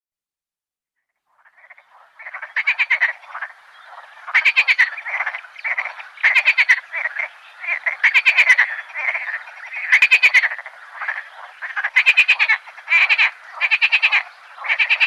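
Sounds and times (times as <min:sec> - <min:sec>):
frogs croaking: 0:01.2 - 0:15.0.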